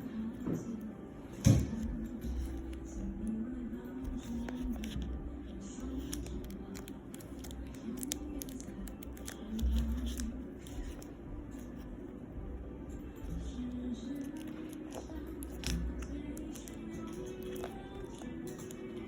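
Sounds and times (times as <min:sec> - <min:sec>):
faint background music: 0:00.0 - 0:19.0.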